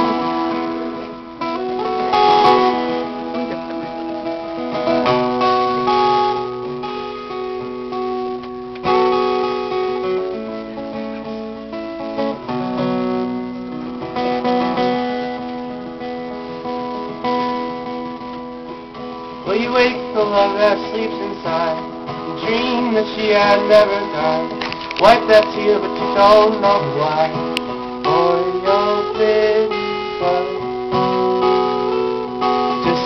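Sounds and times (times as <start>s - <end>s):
guitar strumming chords: 0.0s - 33.0s.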